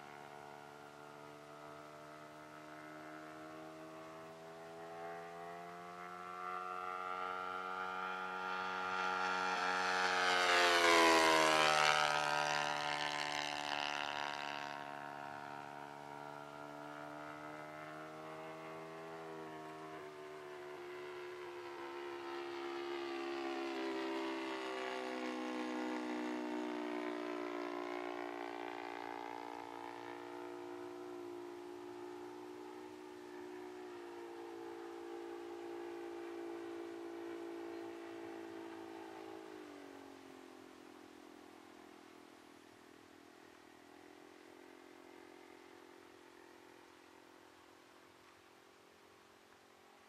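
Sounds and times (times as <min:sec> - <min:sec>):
model plane engine droning: 0:00.0 - 0:50.0.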